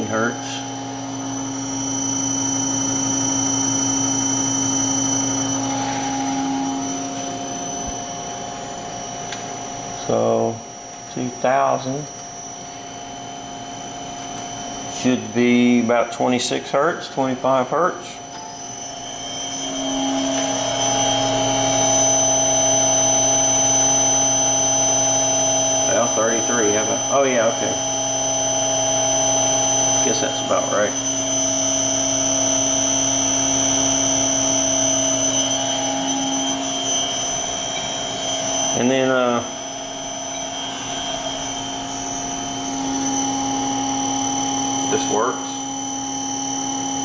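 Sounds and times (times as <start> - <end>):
faint higher tone: 0.0 - 15.8, 18.3 - 46.7
spindle motor hum and whine: 0.0 - 47.0.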